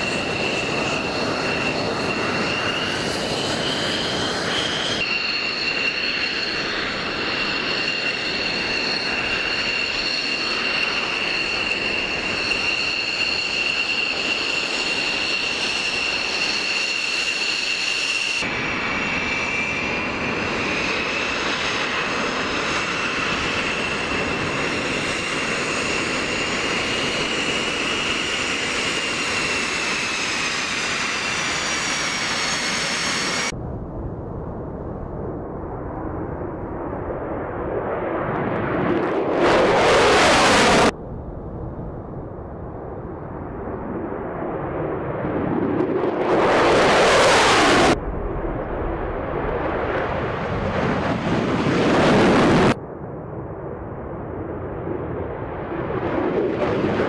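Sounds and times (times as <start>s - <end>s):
twin-engine jet taxiing: 0.0s - 33.6s, 37.9s - 41.0s, 43.7s - 52.8s, 54.8s - 57.0s
distant jet roar: 0.0s - 41.0s, 42.1s - 52.8s
jet engine whine and roar: 0.0s - 57.0s.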